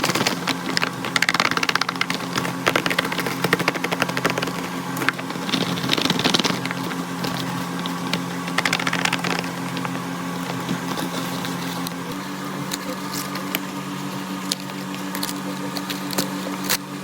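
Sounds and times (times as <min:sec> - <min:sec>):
packaging crackling and crinkling: 0:00.0 - 0:13.7
steady low hum: 0:00.0 - 0:17.0.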